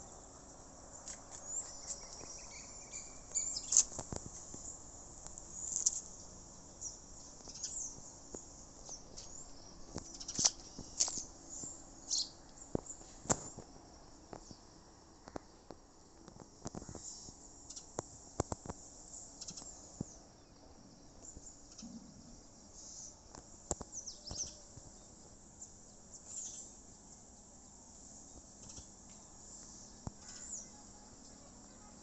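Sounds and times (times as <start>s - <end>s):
birds chirping: 0.0s - 13.1s, 19.0s - 32.0s
faint high insect hum: 0.0s - 32.0s.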